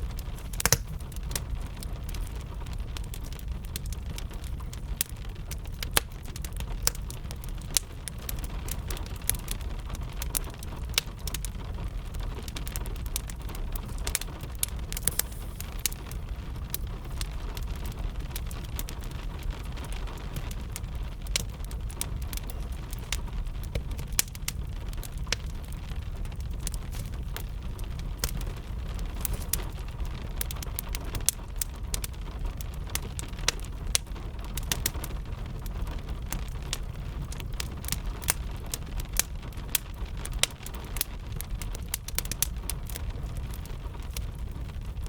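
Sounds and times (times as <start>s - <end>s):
fire crackling and popping: 0.0s - 45.0s
gentle rain patter: 0.0s - 45.0s.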